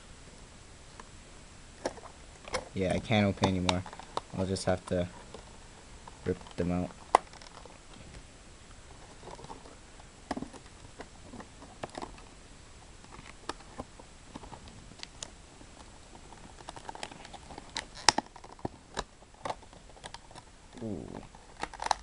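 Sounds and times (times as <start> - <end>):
plastic packaging crackling: 1.8 - 8.0, 8.8 - 12.3, 13.0 - 22.0.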